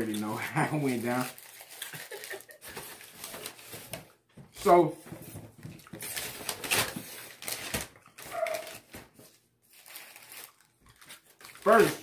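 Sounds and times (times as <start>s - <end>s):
food wrapping rustling: 0.0s - 12.0s.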